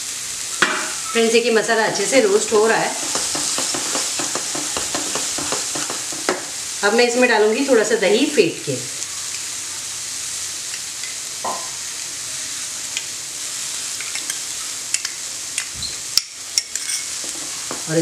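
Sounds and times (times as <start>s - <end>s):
paste sizzling in oil: 0.0s - 18.0s.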